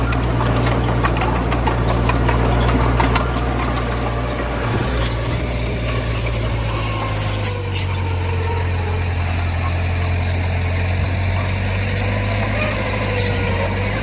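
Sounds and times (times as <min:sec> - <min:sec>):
diesel engine running: 0:00.0 - 0:14.0
metal clanks and rattles: 0:00.0 - 0:14.0.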